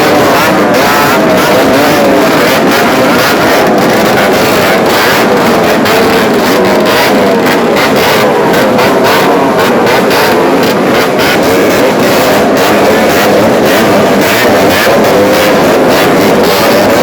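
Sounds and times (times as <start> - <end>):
motorcycles revving together: 0.0 - 17.0.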